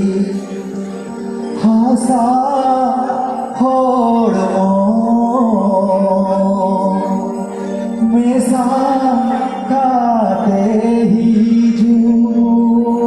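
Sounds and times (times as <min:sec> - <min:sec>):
band playing through pa: 0:00.0 - 0:13.0
person singing long notes: 0:00.0 - 0:13.0.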